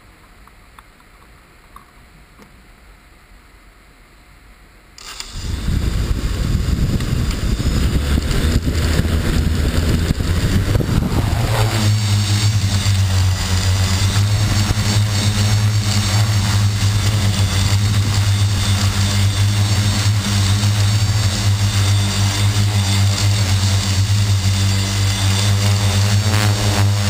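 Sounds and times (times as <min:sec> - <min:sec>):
quadcopter propellers spinning: 0:05.0 - 0:27.0.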